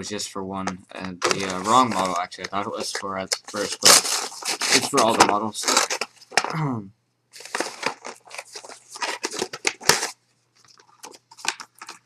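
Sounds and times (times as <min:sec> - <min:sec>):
paper and cardboard rustling: 0:01.2 - 0:06.5, 0:07.4 - 0:12.0.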